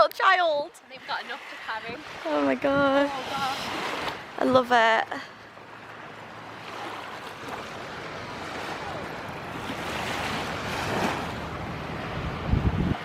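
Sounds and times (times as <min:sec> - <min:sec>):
wind buffeting microphone: 0:00.5 - 0:13.0
surf washing onto sand: 0:01.0 - 0:05.0, 0:06.5 - 0:13.0.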